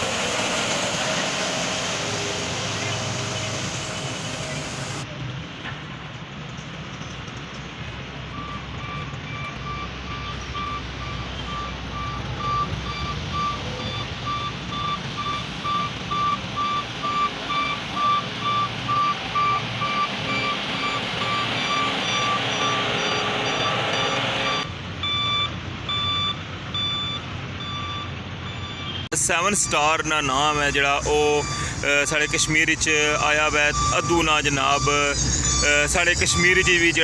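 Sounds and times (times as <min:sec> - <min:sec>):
reversing alarm beeping: 0:00.0 - 0:05.0, 0:08.3 - 0:37.0
diesel engine rumble: 0:00.0 - 0:37.0.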